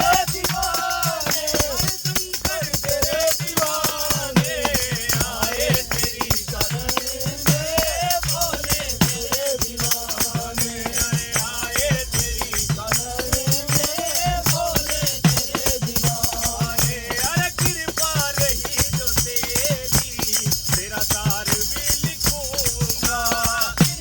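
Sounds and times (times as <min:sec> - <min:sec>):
hand drum beat: 0:00.0 - 0:24.0
jingling rattling percussion: 0:00.0 - 0:24.0
men singing together: 0:00.0 - 0:24.0.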